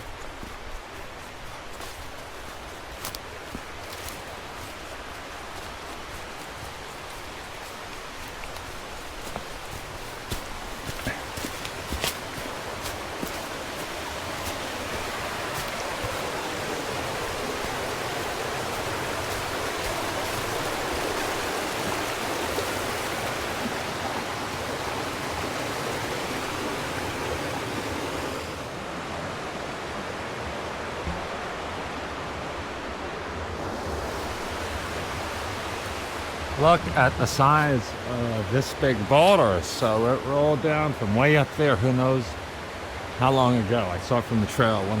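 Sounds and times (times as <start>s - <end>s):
creek rushing over rocks: 0.0s - 45.0s.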